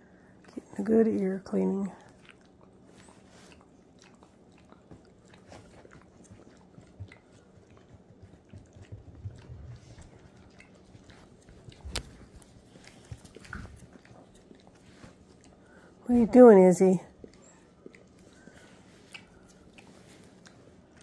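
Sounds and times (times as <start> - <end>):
dog licking: 1.9 - 21.0.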